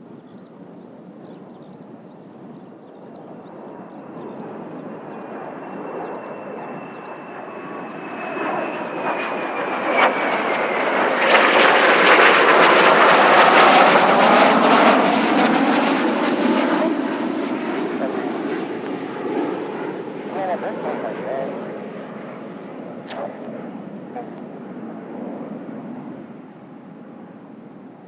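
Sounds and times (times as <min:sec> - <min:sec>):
jet aircraft passing overhead: 0:00.0 - 0:28.0.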